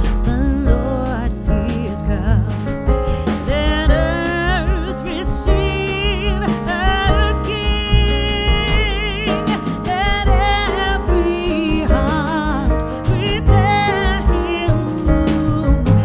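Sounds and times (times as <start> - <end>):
song with singer and band: 0.0 - 16.0.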